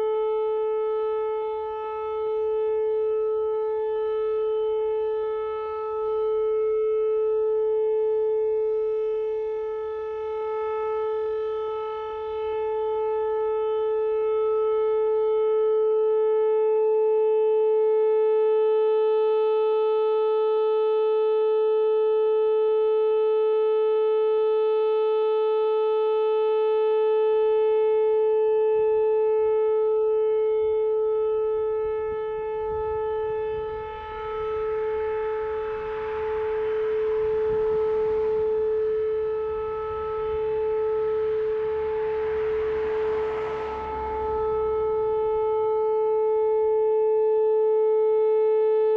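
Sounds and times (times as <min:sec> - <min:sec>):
tornado warning siren: 0:00.0 - 0:48.9.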